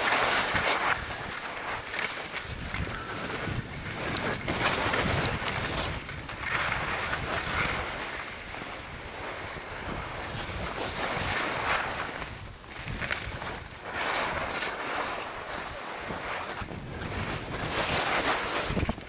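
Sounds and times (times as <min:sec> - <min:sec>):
skis scraping through snow: 0:00.0 - 0:19.0
wind noise on microphone: 0:00.0 - 0:19.0.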